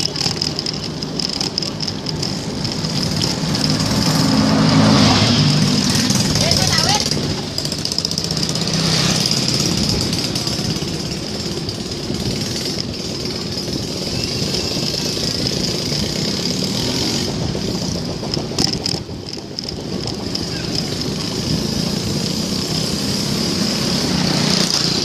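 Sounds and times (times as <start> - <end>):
bicycle rattling over rough road: 0.0 - 25.0.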